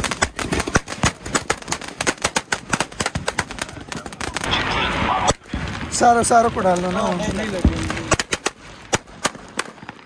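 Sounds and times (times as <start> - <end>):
firecrackers cracking: 0.0 - 10.0.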